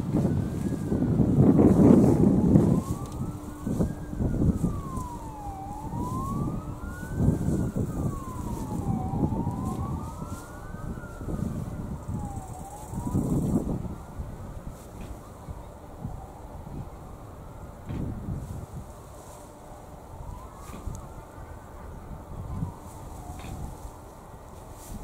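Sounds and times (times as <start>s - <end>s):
emergency vehicle siren wailing: 0.0s - 25.0s
wind rumble on microphone: 0.0s - 25.0s.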